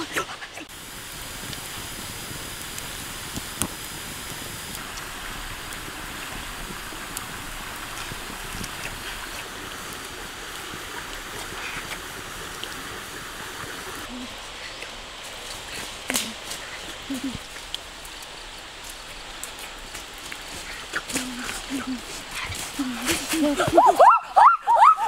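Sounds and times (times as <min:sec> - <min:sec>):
wood fire hissing and crackling: 0:00.0 - 0:25.0.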